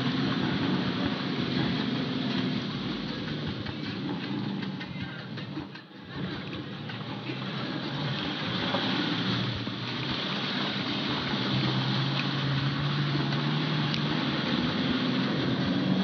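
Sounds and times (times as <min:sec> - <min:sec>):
tyre and road noise: 0:00.0 - 0:16.0
vehicle engine hum: 0:00.0 - 0:16.0.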